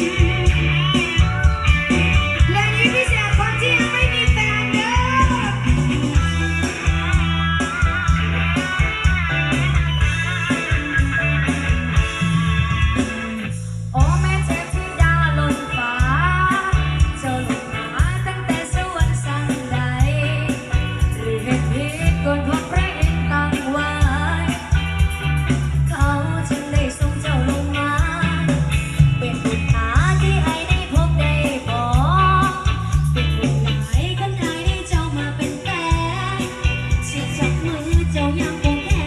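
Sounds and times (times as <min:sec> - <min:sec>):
song over loudspeakers: 0:00.0 - 0:39.0.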